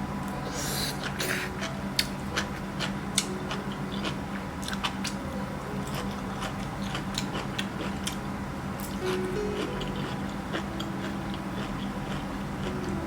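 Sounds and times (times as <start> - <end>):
steady low hum: 0.0 - 13.0
chewing crunches and mouth clicks: 1.0 - 5.2, 5.8 - 13.0.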